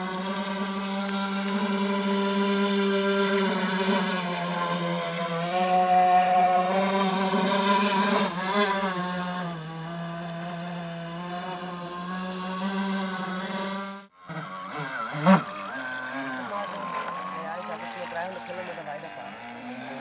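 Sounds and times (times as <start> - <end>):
model boat motor whine: 0.0 - 20.0.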